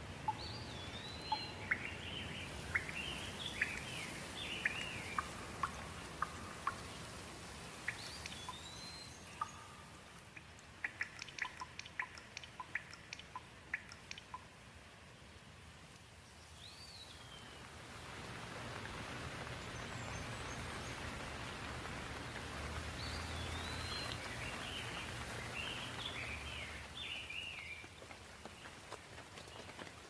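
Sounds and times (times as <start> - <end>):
rain hissing: 0.0 - 30.0
birds chirping: 0.2 - 14.5, 19.4 - 29.7.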